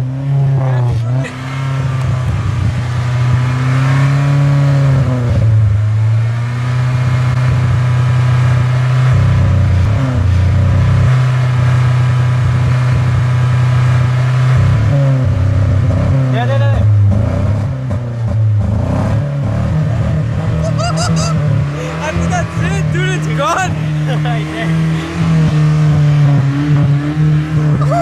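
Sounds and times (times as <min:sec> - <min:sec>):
car engine running at raised revs: 0:00.0 - 0:28.0.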